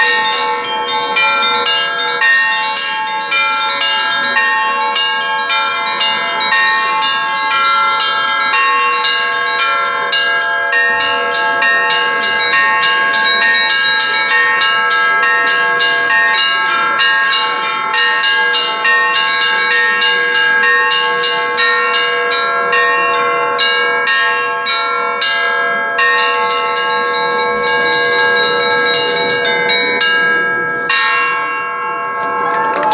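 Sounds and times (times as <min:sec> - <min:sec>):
lower bells ringing: 0:00.0 - 0:32.9.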